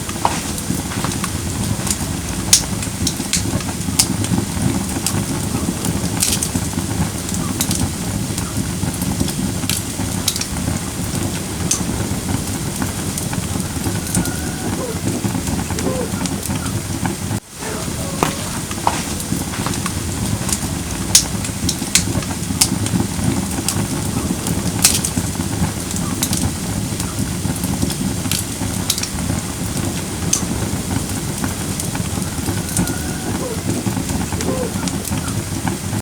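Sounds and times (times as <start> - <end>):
campfire flames rushing: 0.0 - 36.0
wood crackling and popping: 0.0 - 36.0.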